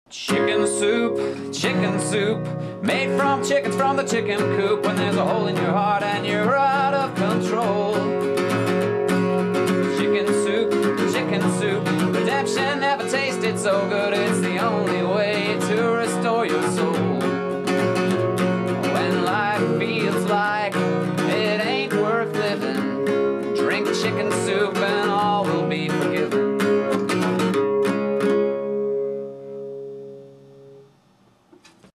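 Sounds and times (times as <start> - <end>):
acoustic guitar strumming: 0.2 - 31.9.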